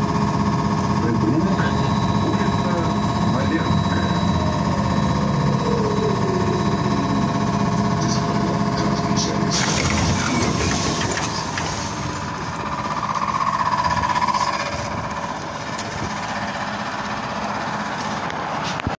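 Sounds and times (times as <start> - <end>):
fast-pulsing electrical hum: 0.0 - 18.3.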